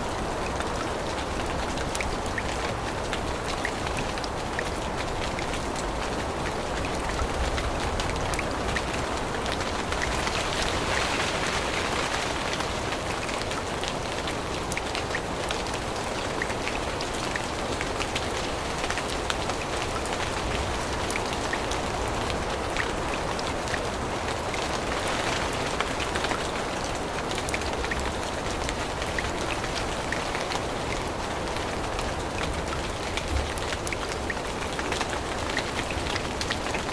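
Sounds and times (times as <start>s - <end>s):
rain falling in forest: 0.0s - 36.9s.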